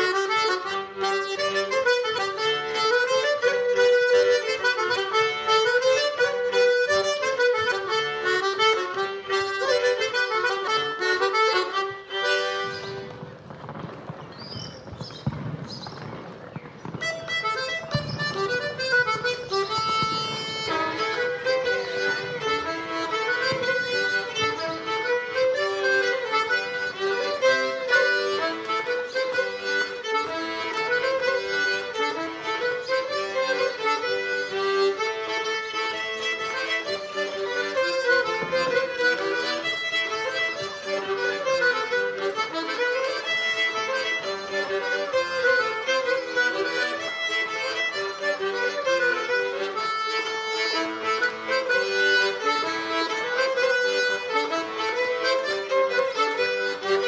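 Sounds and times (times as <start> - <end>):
fiddle and accordion dance tune: 0.0 - 57.0.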